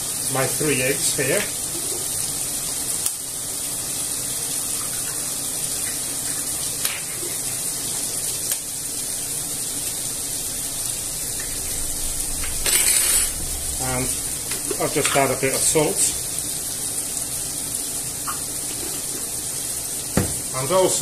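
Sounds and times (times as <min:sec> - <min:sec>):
food frying in a pan: 0:00.0 - 0:21.0.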